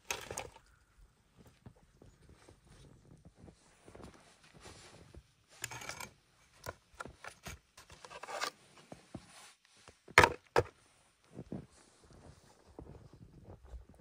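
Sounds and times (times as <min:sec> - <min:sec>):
camping gear rustling and scraping: 0:00.0 - 0:14.0.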